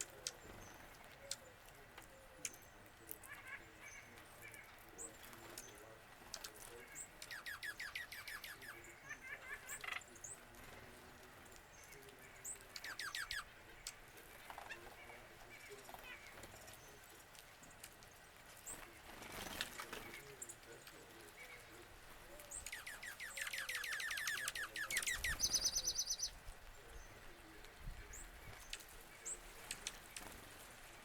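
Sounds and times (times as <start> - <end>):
songbirds singing and calling: 0.0 - 31.0.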